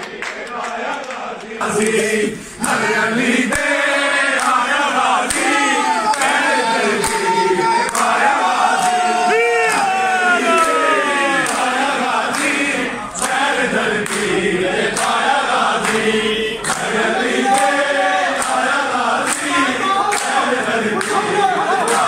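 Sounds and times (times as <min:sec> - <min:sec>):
rhythmic hand-clapping: 0:00.0 - 0:22.0
men chanting in unison: 0:00.1 - 0:22.0.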